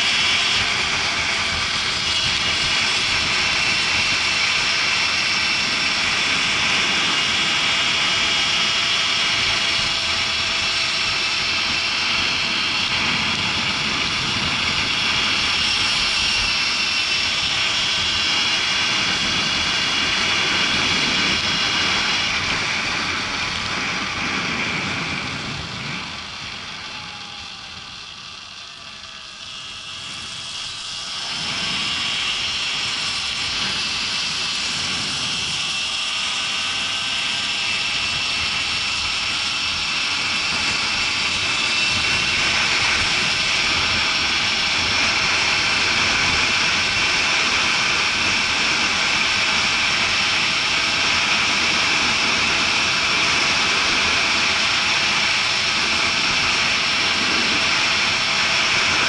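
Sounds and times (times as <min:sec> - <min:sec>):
motorbike motor whine: 0:00.0 - 0:59.0.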